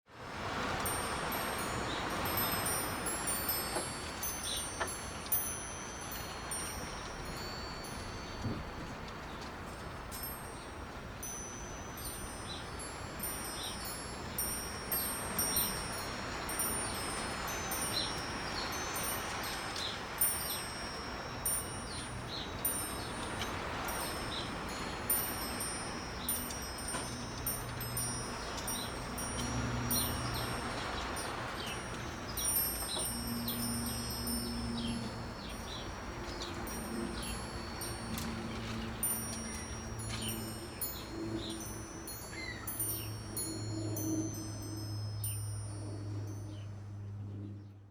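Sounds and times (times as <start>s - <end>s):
wind chimes ringing: 0.2s - 47.6s.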